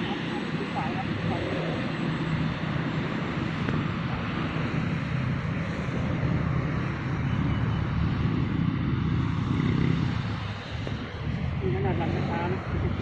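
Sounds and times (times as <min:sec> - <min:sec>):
model airplane engine humming: 0:00.0 - 0:13.0
wind buffeting microphone: 0:00.0 - 0:13.0.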